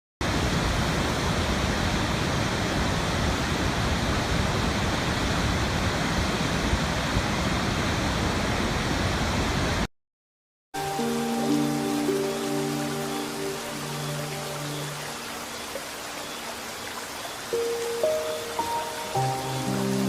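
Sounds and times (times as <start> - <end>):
rush of falling water: 0.2 - 9.9, 10.8 - 20.0.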